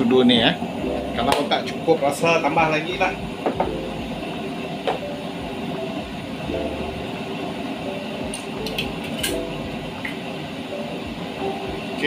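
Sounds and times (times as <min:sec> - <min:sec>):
liquid boiling in metal pot: 0:00.0 - 0:12.0.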